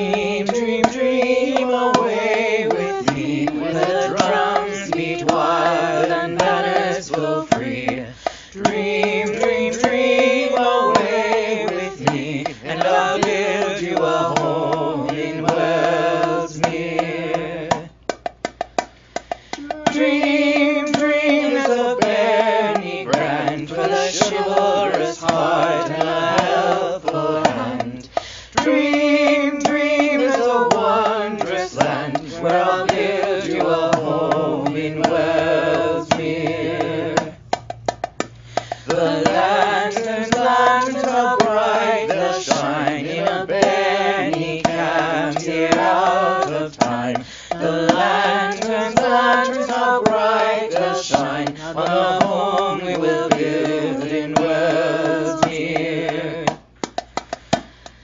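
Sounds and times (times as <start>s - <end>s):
person singing: 0.0s - 17.9s, 19.5s - 37.4s, 38.8s - 56.6s
drums: 0.0s - 58.0s.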